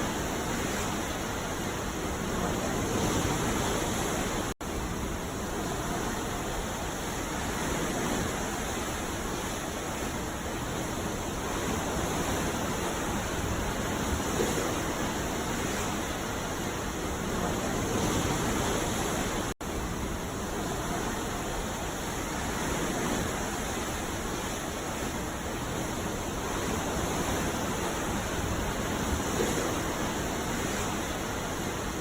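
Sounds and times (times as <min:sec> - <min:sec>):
waves breaking: 0:00.0 - 0:32.0.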